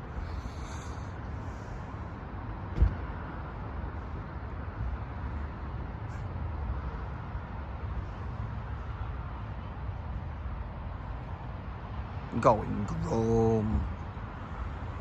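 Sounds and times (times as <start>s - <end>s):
road vehicles rumbling: 0.0s - 15.0s.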